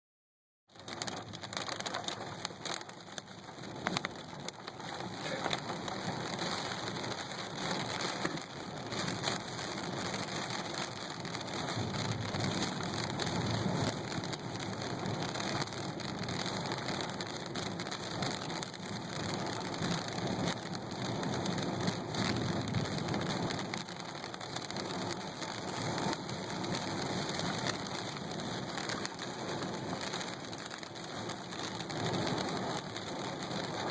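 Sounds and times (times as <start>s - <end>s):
heavy rain falling: 0.7s - 33.9s.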